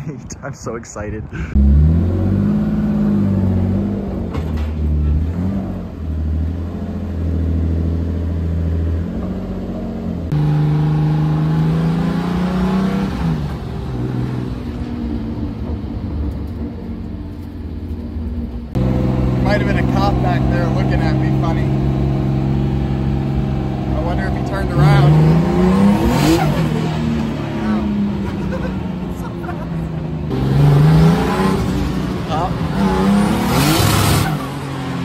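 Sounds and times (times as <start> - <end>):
car engine accelerating: 1.4 - 35.0.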